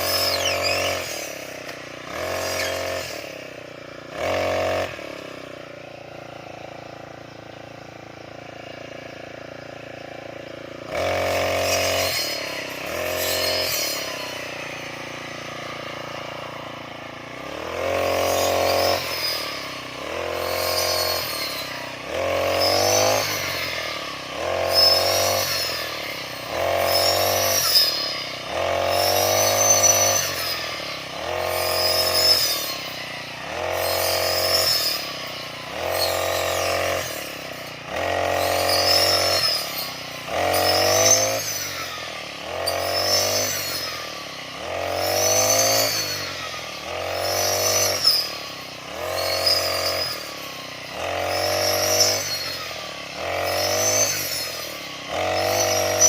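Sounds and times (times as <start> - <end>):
brush cutter engine revving: 0.0 - 56.0.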